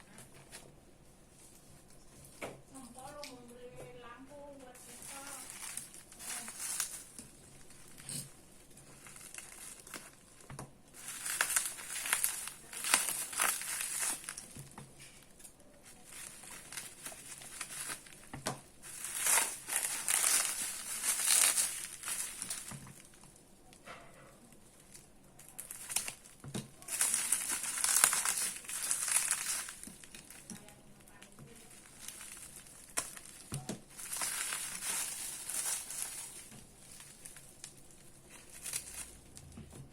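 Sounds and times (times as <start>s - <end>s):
packaging crinkling and rustling: 0.0s - 39.9s.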